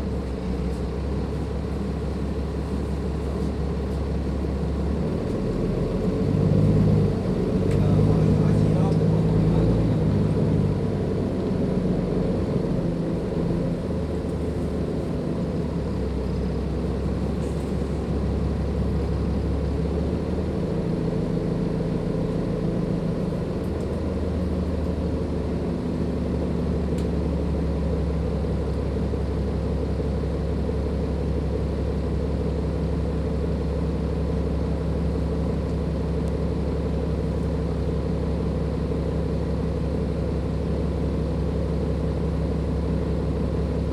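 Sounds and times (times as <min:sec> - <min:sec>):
diesel bus engine humming: 0:00.0 - 0:43.9.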